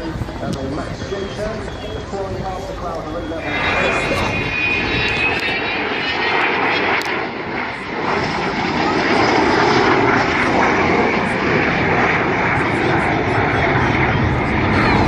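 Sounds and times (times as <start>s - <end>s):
aircraft engine rush: 0.0s - 15.0s
high engine whine: 0.0s - 15.0s.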